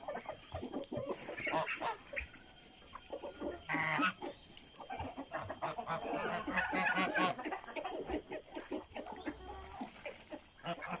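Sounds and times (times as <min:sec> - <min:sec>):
poultry flock calling: 0:00.0 - 0:11.0.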